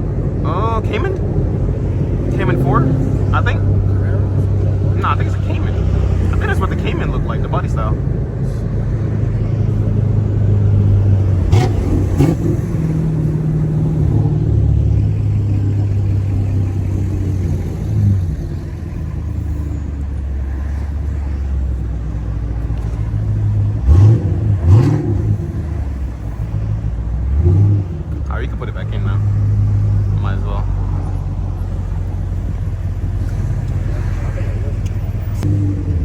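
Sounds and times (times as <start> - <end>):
car engine droning: 0.0 - 36.0
engine revving: 0.0 - 36.0.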